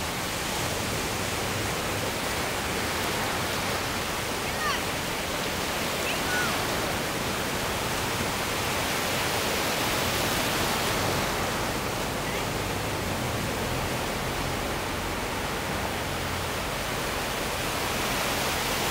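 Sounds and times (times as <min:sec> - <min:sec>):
ocean surf breaking on beach: 0:00.0 - 0:18.9.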